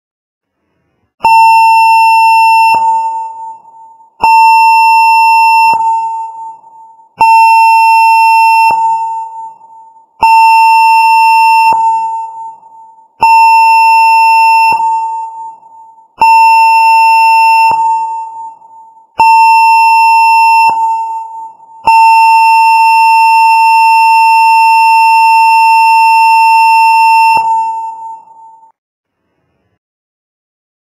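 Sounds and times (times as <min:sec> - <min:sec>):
high electronic alarm tone: 0:01.2 - 0:28.7.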